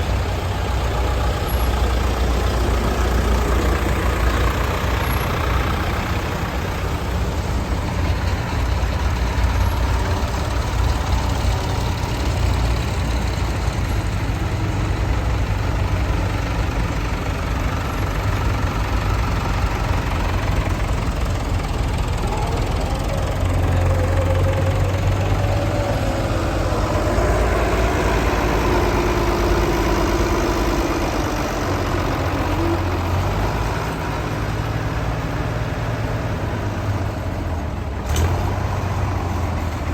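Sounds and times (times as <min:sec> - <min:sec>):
tractor engines running: 0:00.0 - 0:39.9.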